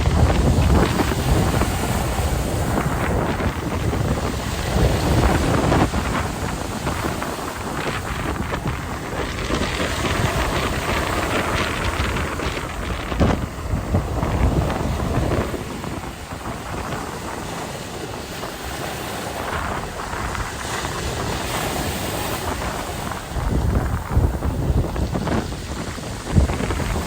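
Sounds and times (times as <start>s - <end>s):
sea waves: 0.0s - 27.0s
wind buffeting microphone: 0.0s - 27.0s.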